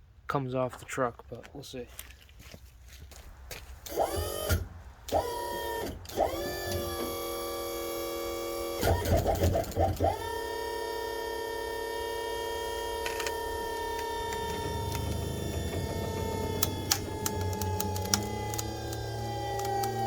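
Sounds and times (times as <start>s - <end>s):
hydraulic pump motor whining: 3.9s - 20.0s.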